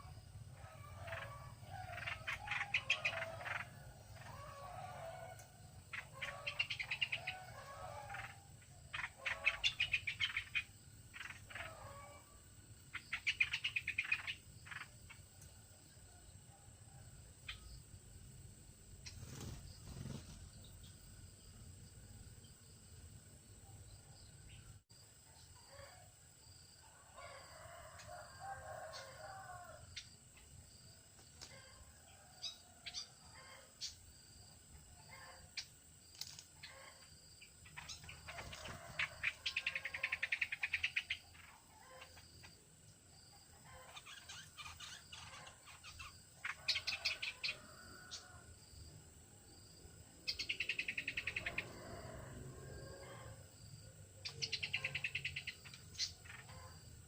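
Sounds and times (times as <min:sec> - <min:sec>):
small birds chirping and trilling: 0:00.0 - 0:16.3, 0:17.0 - 0:18.1, 0:18.9 - 0:22.7, 0:27.1 - 0:48.5, 0:50.1 - 0:57.0.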